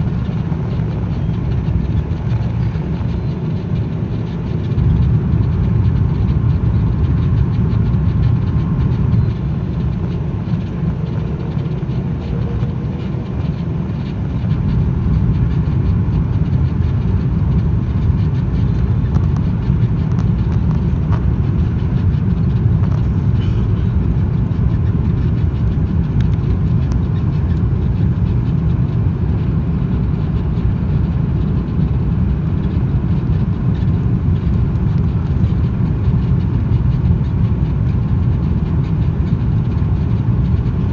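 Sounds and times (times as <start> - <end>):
airliner engines rumbling: 0.0 - 40.9.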